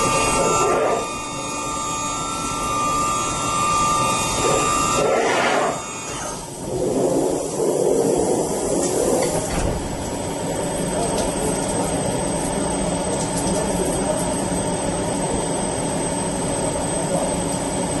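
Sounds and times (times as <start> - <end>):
machining center running with whine: 0.0 - 18.0.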